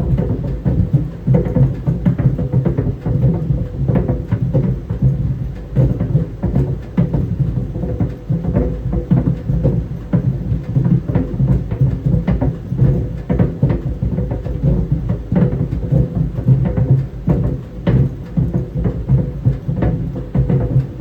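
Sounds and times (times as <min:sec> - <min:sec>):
tennis balls thudding in dryer drum: 0:00.0 - 0:21.0.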